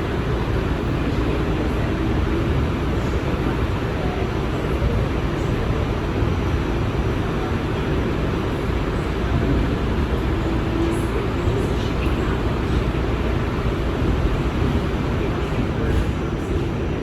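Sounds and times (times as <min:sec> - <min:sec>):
subway train rumble and rail noise: 0:00.0 - 0:17.0.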